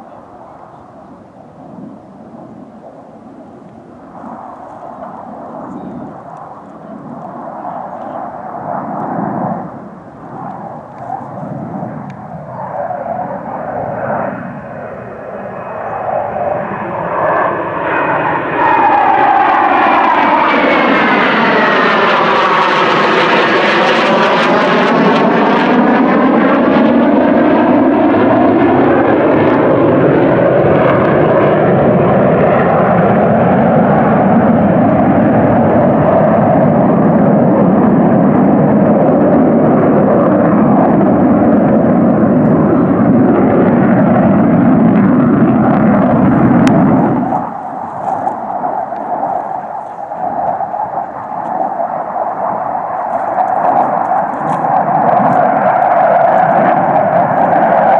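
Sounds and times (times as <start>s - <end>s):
jet planes flying overhead: 0.0s - 57.9s.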